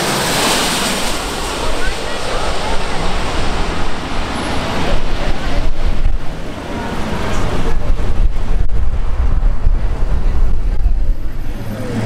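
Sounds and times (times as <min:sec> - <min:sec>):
jet engines rumbling: 0:00.0 - 0:12.0
wind buffeting microphone: 0:00.0 - 0:12.0.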